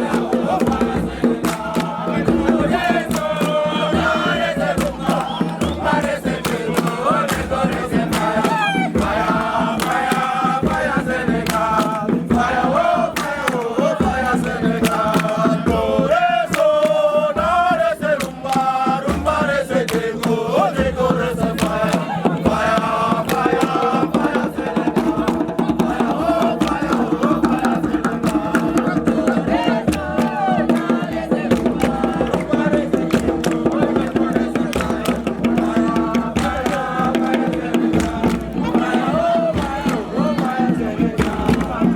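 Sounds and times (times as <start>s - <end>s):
percussive beats: 0.0s - 41.9s
young voices singing a chant: 0.0s - 41.9s.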